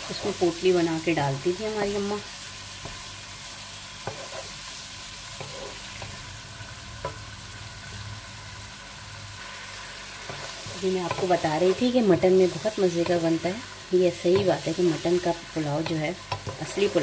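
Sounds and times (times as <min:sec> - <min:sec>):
oil sizzling in a pot: 0:00.0 - 0:17.0.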